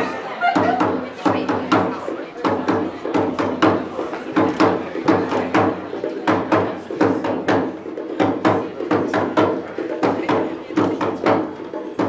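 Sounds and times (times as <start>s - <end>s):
frame drums beaten: 0.0s - 12.0s.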